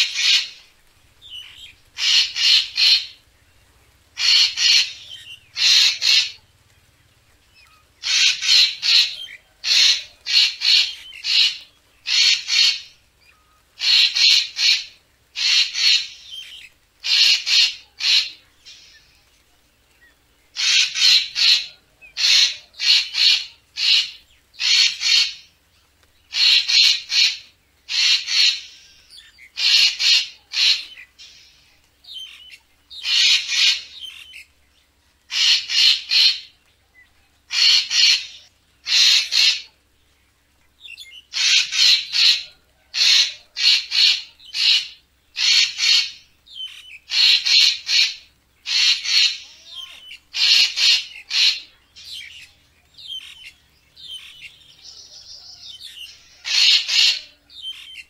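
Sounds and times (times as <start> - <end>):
bird harsh calls: 0.0 - 19.4, 20.0 - 58.0.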